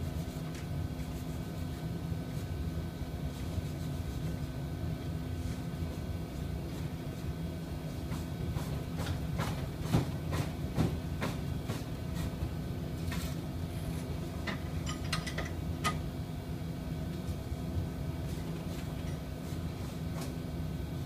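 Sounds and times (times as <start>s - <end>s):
shop machinery hum: 0.0s - 21.0s.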